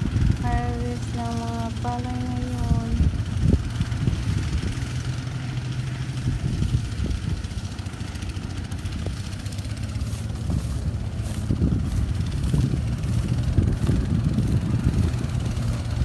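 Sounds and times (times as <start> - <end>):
threshing machine engine humming: 0.0 - 16.0.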